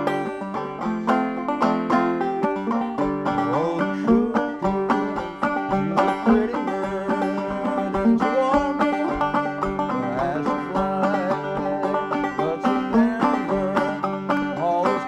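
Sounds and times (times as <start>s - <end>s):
banjo plucked notes: 0.0s - 15.0s.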